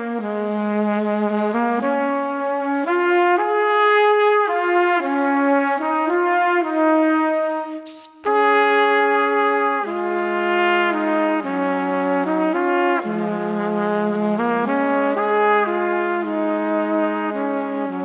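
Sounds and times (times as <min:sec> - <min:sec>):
slow brass-like melody: 0:00.0 - 0:18.0.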